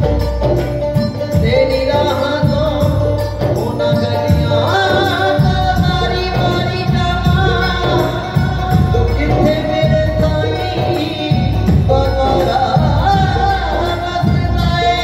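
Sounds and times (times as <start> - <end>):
percussion beat: 0.0 - 15.0
man singing long notes: 1.0 - 15.0.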